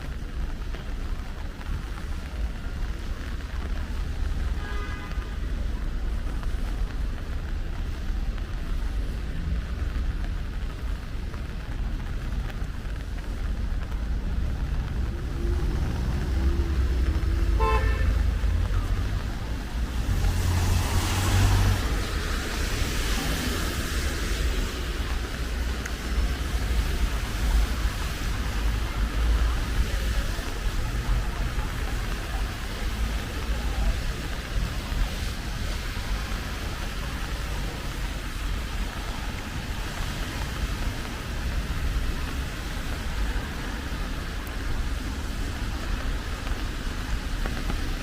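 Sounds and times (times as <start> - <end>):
low traffic rumble: 0.0 - 48.0
tyre hiss on wet road: 0.0 - 48.0.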